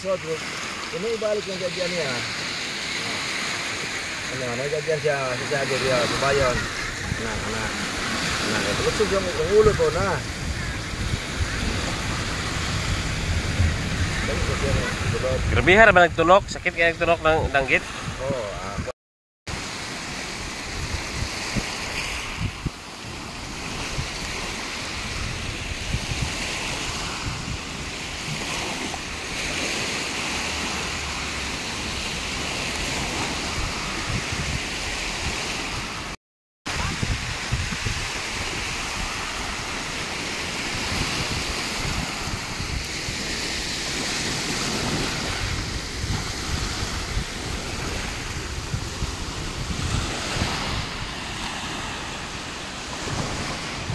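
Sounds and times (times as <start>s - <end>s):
waves washing on gravel beach: 0.0s - 18.5s, 19.5s - 53.9s
wind buffeting microphone: 4.2s - 18.9s, 20.4s - 53.9s.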